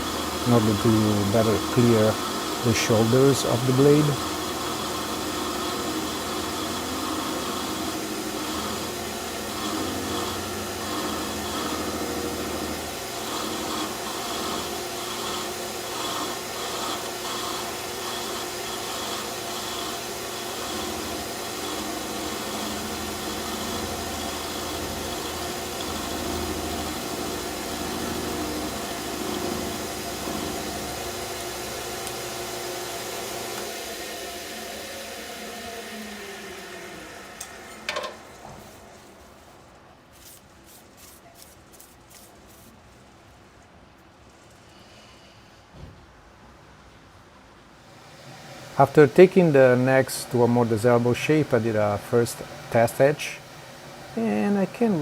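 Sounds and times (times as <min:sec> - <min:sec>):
metal lathe cutting steel: 0:00.0 - 0:39.2, 0:48.5 - 0:55.0.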